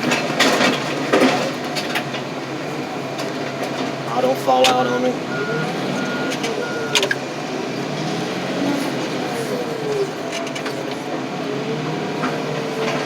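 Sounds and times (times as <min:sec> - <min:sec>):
car crusher machine drone: 0:00.0 - 0:13.0.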